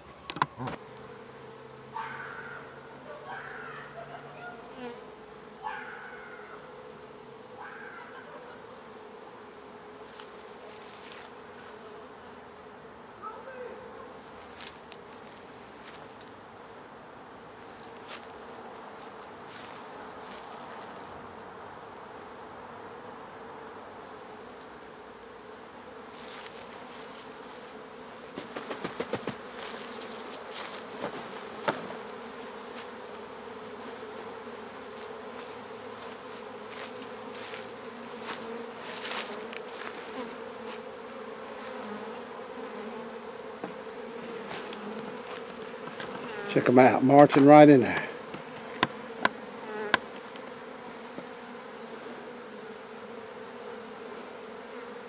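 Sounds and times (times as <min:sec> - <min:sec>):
honey bee swarm humming: 0:00.0 - 0:55.0.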